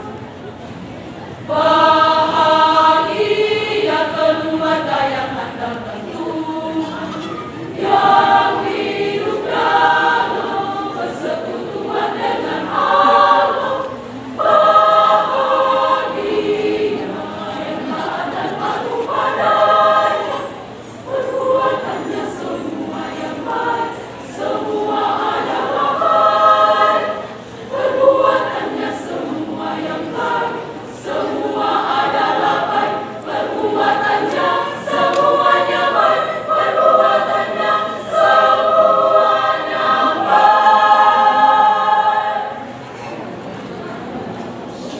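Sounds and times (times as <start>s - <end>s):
women's choir singing: 1.2s - 44.9s.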